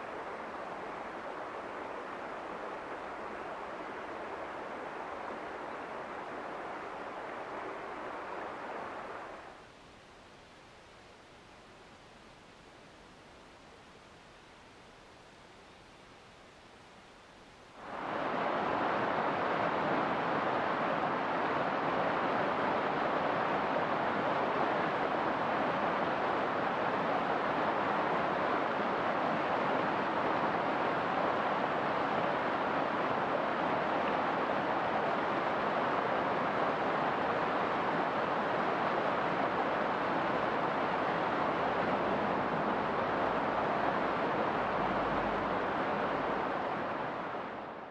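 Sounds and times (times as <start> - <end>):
river rushing over rocks: 0.0 - 47.9.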